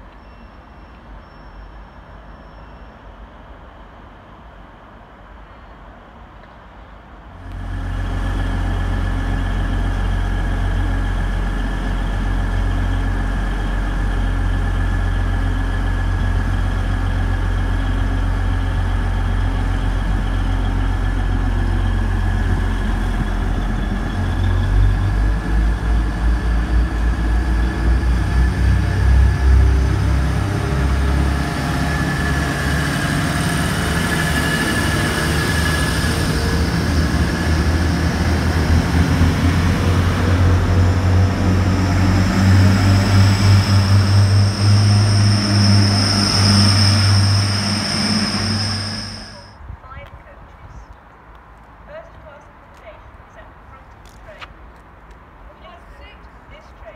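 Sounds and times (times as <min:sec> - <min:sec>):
train diesel engine: 0:00.0 - 0:49.6.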